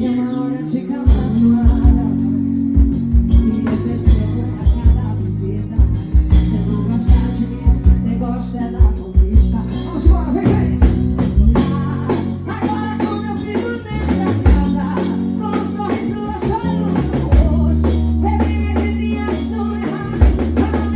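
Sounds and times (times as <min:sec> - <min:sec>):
live band music: 0:00.0 - 0:20.9
person singing: 0:00.0 - 0:20.9
heavy drum beats: 0:01.1 - 0:20.9.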